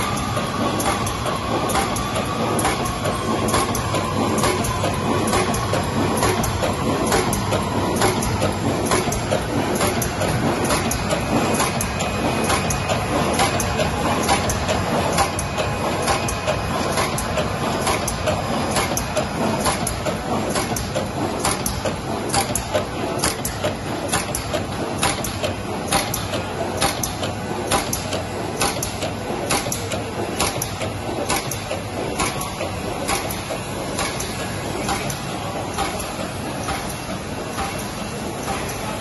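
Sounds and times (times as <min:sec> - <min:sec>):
machine running with regular clacking: 0:00.0 - 0:39.0.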